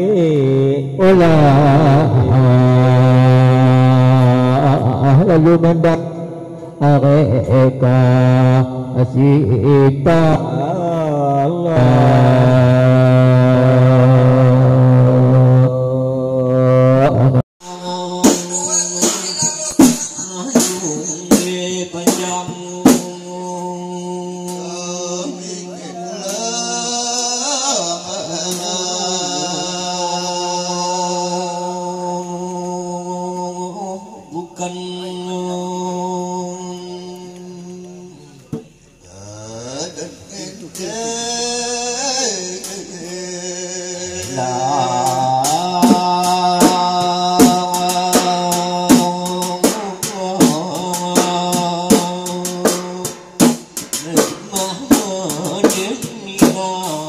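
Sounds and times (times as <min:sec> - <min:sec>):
man singing through pa: 0:00.0 - 0:57.0.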